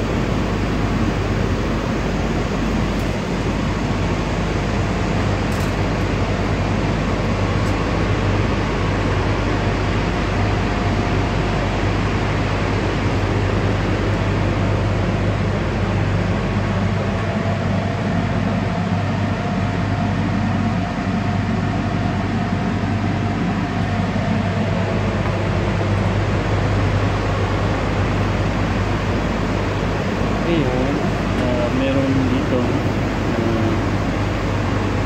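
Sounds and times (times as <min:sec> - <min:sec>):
industrial machinery hum: 0:00.0 - 0:35.0.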